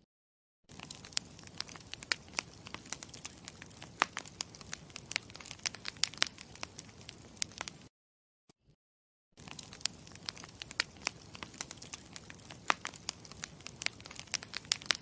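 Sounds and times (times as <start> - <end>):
campfire crackling: 0.7 - 7.9, 9.4 - 15.0.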